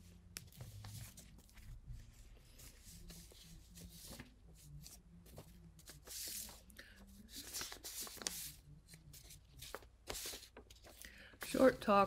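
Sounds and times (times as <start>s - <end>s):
paper rustling: 0.4s - 11.8s.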